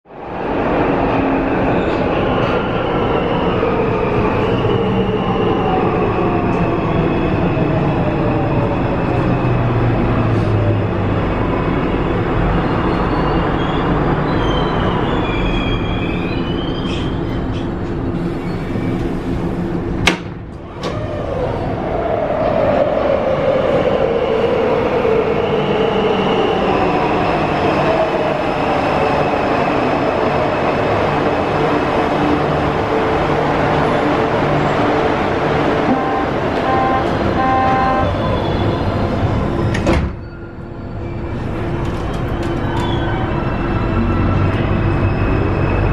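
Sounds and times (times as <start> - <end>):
metro train rumble: 0.1 - 45.9.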